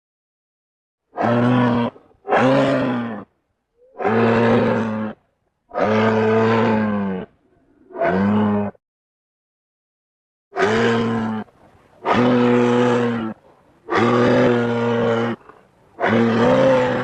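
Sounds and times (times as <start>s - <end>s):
bear low vocal calls: 1.1s - 8.8s, 10.6s - 17.0s.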